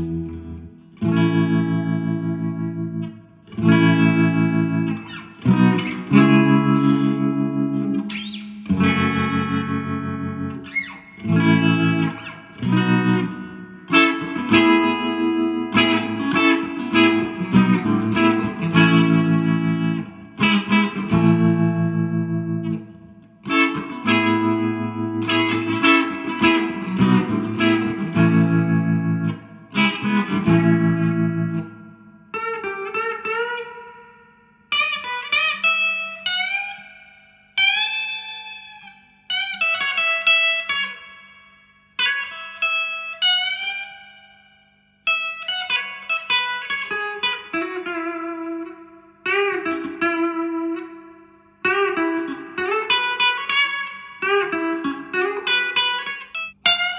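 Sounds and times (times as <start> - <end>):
electric guitar lead with bends: 0.0 - 56.9
electric guitar strumming chords: 0.0 - 56.9.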